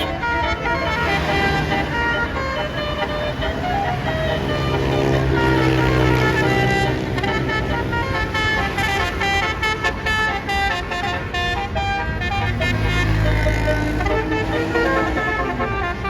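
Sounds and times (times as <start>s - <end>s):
multi-tone air horn melody: 0.0s - 16.0s.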